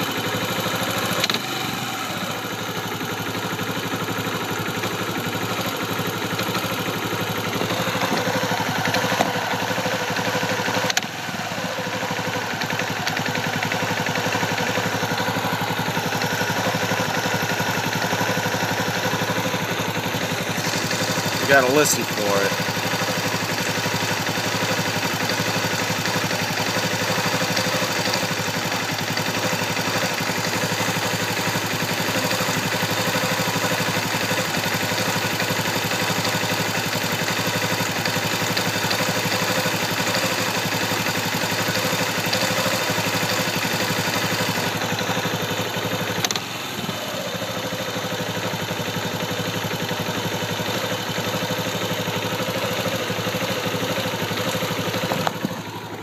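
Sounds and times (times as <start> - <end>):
atv engine idling: 0.0 - 56.0.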